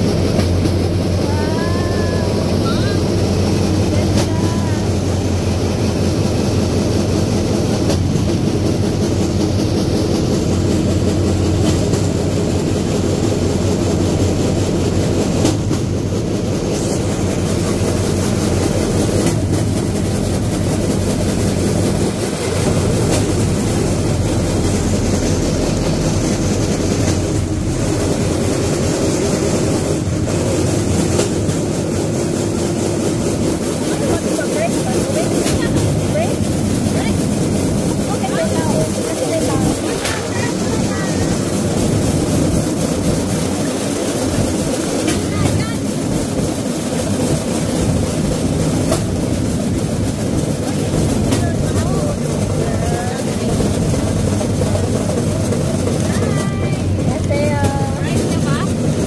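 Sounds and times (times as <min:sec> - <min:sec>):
steel wheels rolling on rails: 0:00.0 - 0:59.0.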